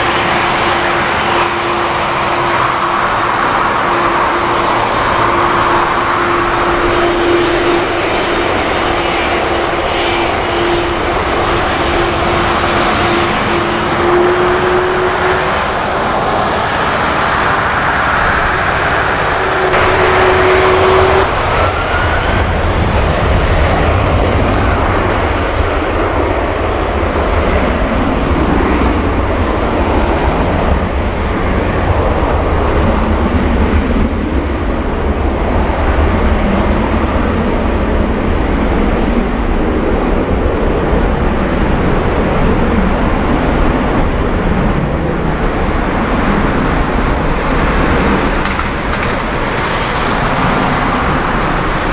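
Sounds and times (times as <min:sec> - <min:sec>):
high jet engine whine: 0:00.0 - 0:51.9
jet engines rumbling: 0:00.0 - 0:51.9.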